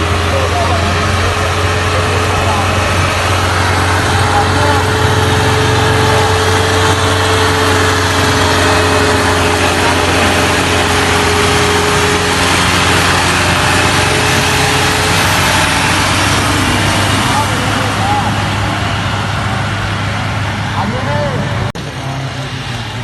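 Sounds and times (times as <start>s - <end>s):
tractor diesel engines running: 0.0s - 23.0s.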